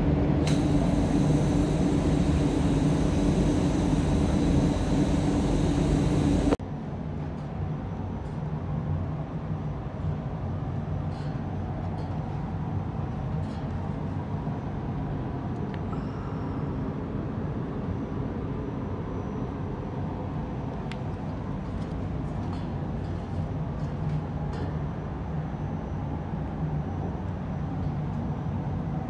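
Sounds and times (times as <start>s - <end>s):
ventilation fans running: 0.0s - 16.4s, 19.9s - 29.0s.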